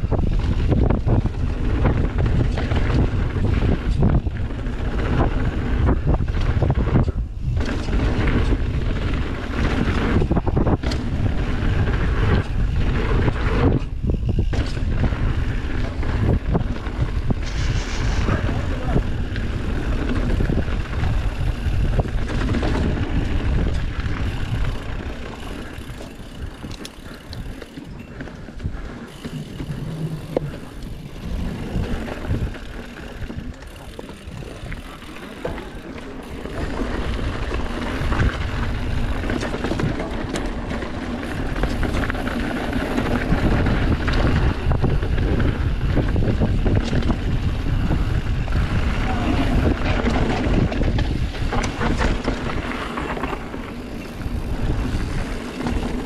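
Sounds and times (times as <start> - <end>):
bike clicks and rattles: 0.0 - 56.0
bike tyre noise: 0.0 - 56.0
wind buffeting microphone: 0.0 - 56.0.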